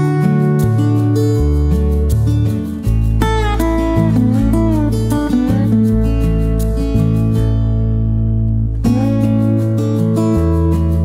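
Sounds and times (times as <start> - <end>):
guitar background music with bass: 0.0 - 11.0.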